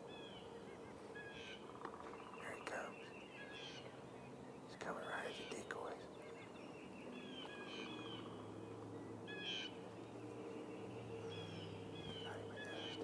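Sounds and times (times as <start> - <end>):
bird calls and chirps: 0.0 - 13.0.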